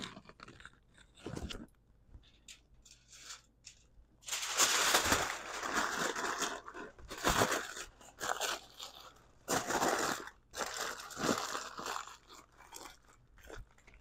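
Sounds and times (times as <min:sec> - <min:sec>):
aluminium foil crinkling: 0:02.4 - 0:14.0.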